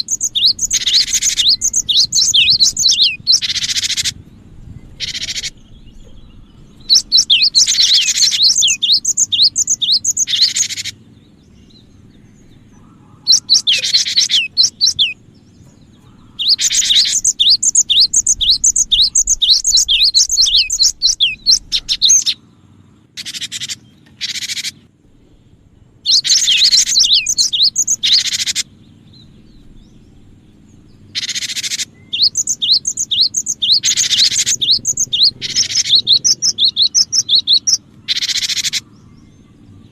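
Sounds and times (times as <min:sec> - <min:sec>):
bird chirping rapidly: 0:00.0 - 0:22.4, 0:23.1 - 0:39.9.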